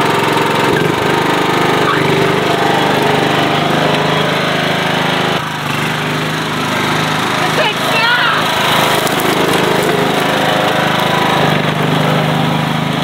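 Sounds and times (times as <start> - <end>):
riding lawn tractor engine running: 0.0 - 13.0.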